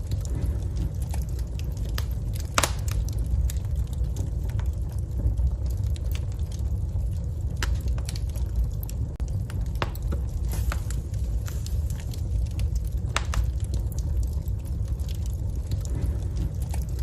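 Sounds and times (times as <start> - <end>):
low rumble: 0.0 - 17.0
wood fire crackling: 0.0 - 17.0.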